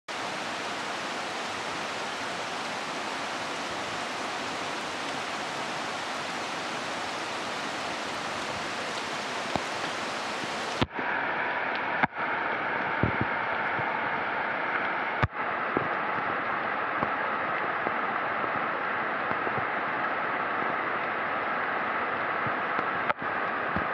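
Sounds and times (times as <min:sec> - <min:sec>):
heavy rain hissing: 0:00.1 - 0:23.9.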